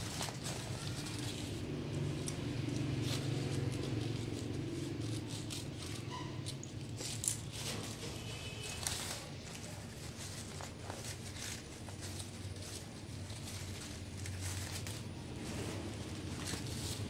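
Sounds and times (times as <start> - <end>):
wrapping paper rustling: 0.0 - 17.0.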